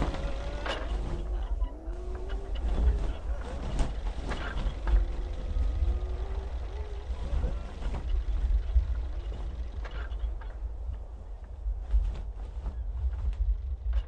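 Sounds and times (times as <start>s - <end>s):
faint wavering gliding tones: 0.0s - 14.0s
low steady rumble: 0.0s - 14.0s.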